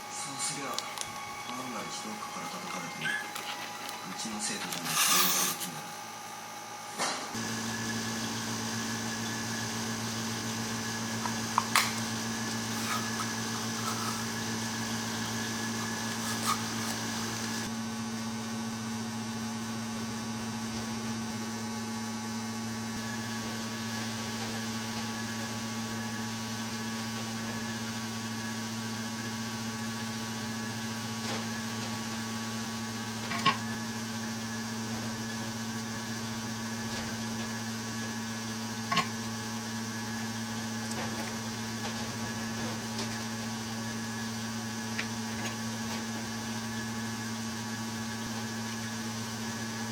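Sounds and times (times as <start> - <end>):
small electric machine humming: 0.0 - 49.9.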